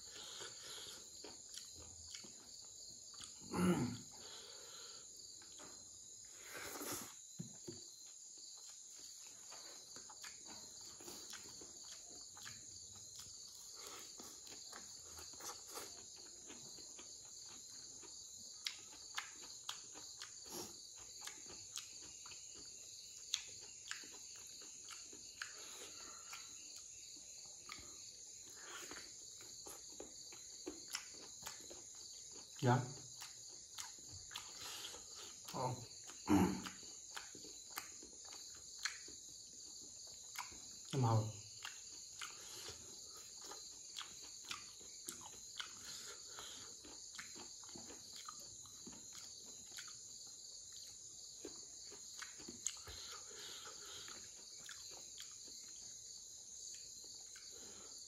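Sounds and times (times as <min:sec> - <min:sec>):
wet chewing and lip-smacking: 0:00.0 - 0:04.2, 0:05.2 - 0:58.0
crickets chirping: 0:00.0 - 0:58.0.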